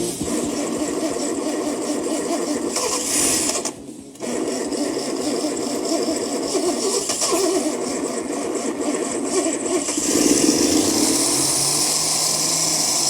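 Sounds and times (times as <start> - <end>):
engine cranking by starter: 0.0 - 13.0.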